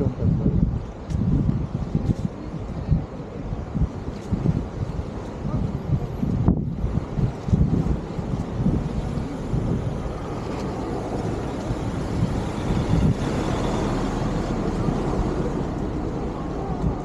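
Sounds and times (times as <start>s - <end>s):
outdoor low rumble: 0.0s - 17.0s.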